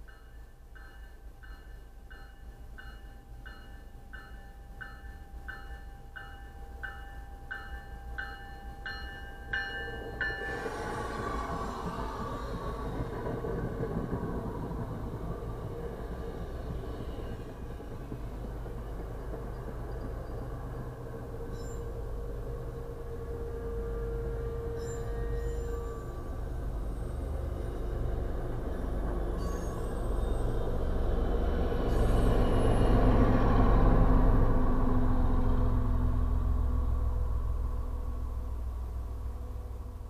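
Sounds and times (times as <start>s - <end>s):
diesel locomotive: 0.0s - 40.0s
train coaches rumbling on rails: 0.0s - 40.0s.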